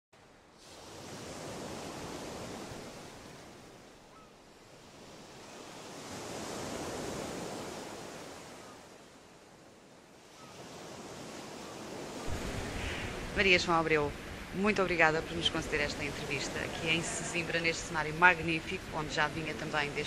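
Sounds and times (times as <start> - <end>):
sea waves washing onto shore: 0.2 - 20.0.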